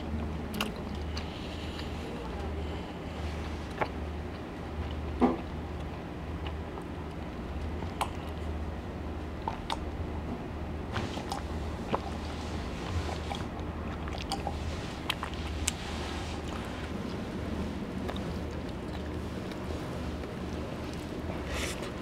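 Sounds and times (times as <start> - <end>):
person chewing: 0.2 - 2.0, 3.1 - 8.6, 9.4 - 9.9, 11.0 - 22.0.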